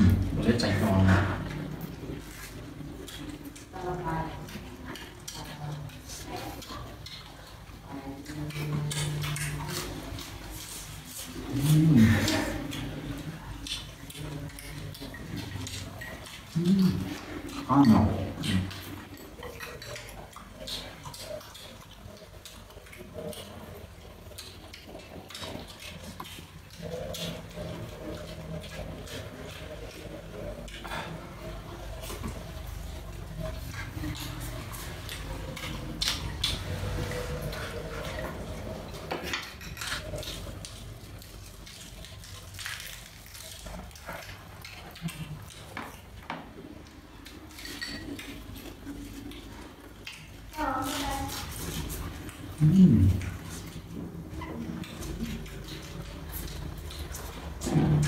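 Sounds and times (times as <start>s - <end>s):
chewing and smacking mouth sounds: 0.0s - 58.0s.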